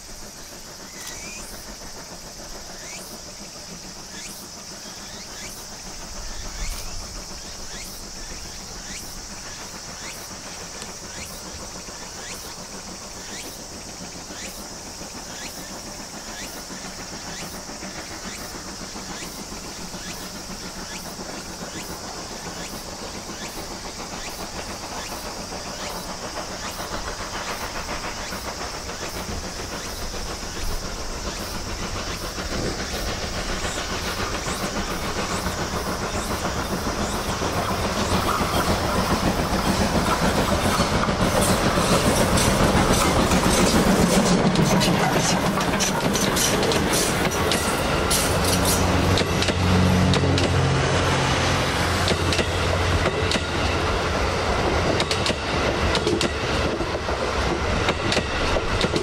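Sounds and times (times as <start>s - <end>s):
insects droning: 0.0s - 59.0s
steam locomotive chuffing: 0.0s - 59.0s
train wheels clattering: 0.0s - 59.0s.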